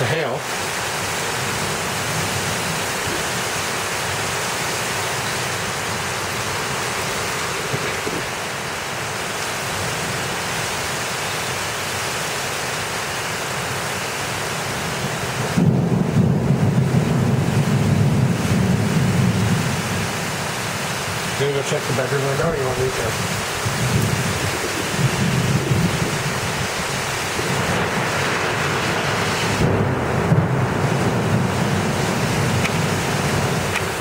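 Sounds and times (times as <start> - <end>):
heavy rain and hail: 0.0 - 34.0.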